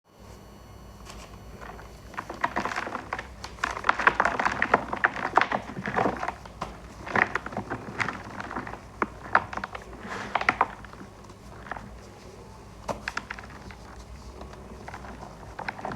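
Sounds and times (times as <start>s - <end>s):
chalk balls crunching: 1.1s - 15.9s.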